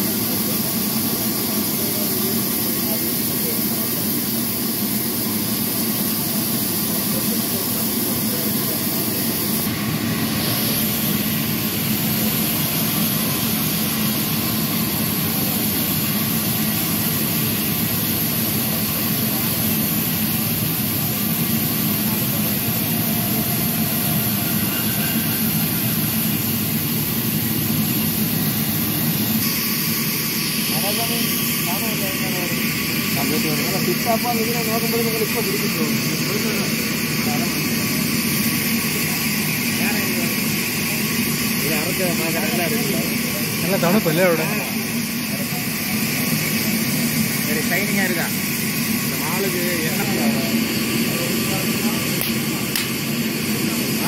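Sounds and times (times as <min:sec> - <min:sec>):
band sawmill running: 0:00.0 - 0:54.0.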